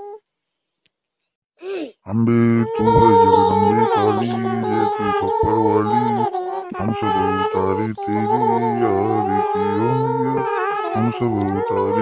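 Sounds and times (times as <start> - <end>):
high voice singing: 2.1 - 12.0.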